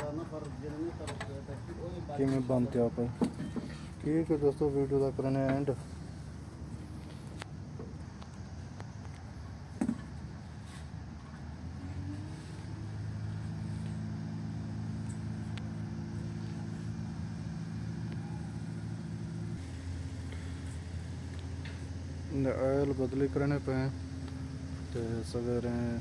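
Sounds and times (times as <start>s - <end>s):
diesel generator engine running: 0.0s - 26.0s.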